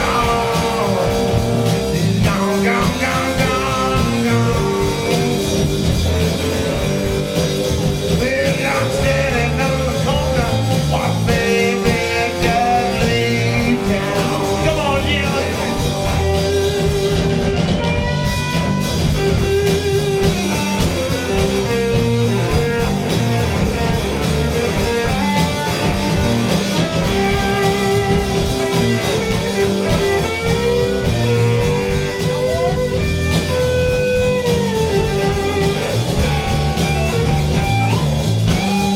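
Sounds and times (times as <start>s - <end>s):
blues-rock band playing live: 0.0s - 38.9s
lead guitar bent notes: 0.0s - 38.9s.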